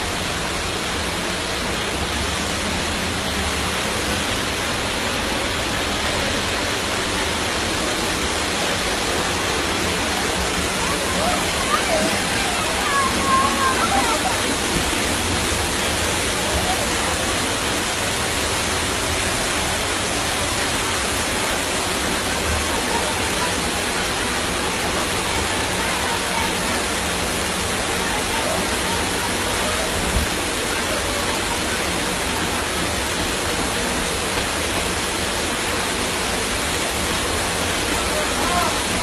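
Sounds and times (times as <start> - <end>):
floodwater rushing: 0.0 - 39.0.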